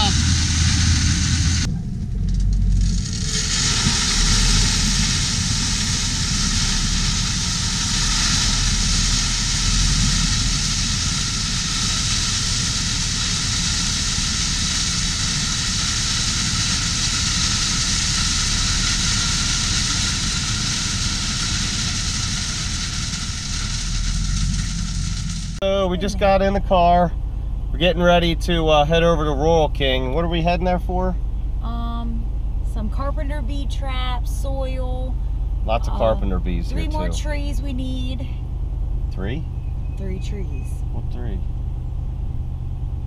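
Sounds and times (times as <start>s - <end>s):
dump truck engine running: 0.0s - 43.0s.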